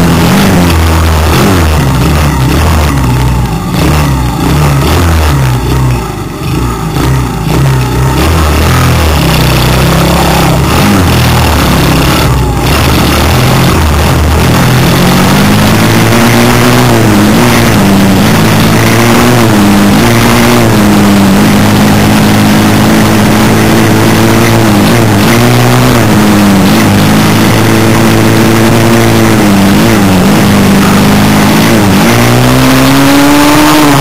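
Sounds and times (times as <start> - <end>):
off-road motorbike engine revving: 0.0 - 34.0.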